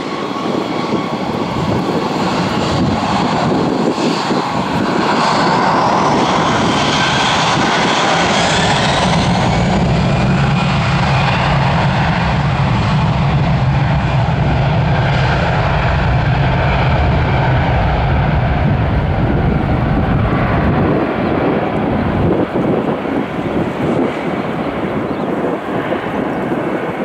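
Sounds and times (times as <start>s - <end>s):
jet engines roaring on takeoff: 0.0s - 27.0s.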